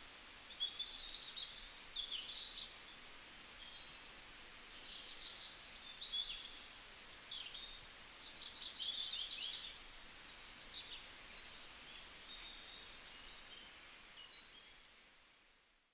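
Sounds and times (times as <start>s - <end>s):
faint steady hiss: 0.0s - 15.9s.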